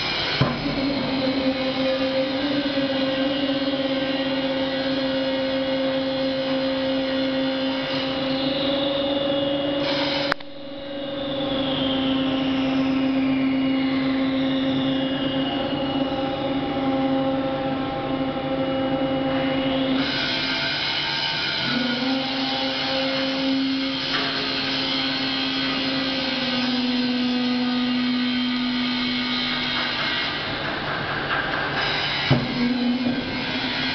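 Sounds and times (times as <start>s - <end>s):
hydraulic whine: 0.0s - 33.9s.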